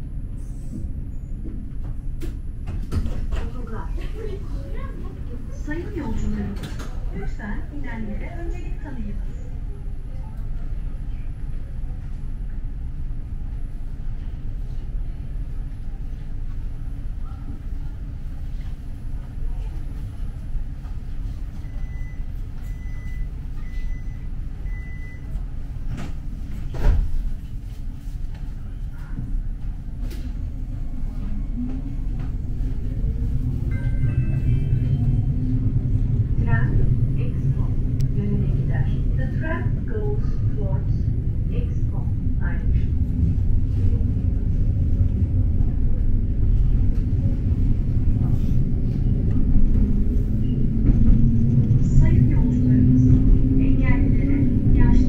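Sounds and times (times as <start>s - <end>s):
tram rumble: 0.0s - 55.0s.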